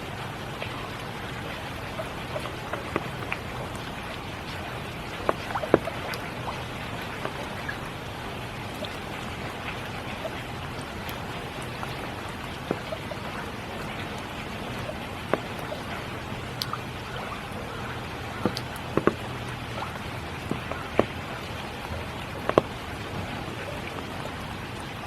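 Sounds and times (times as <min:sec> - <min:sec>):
heavy raindrops tapping: 0:00.0 - 0:25.0
rain falling: 0:00.0 - 0:25.0.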